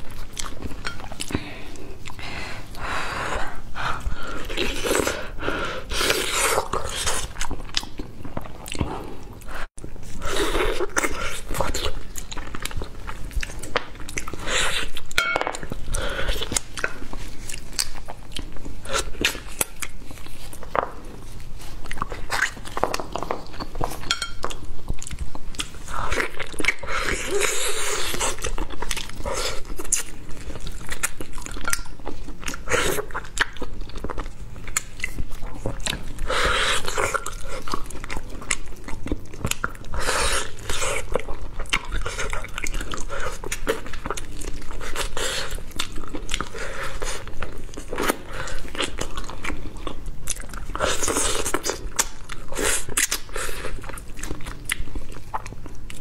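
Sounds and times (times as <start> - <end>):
biting and chewing meat: 0.0 - 56.0.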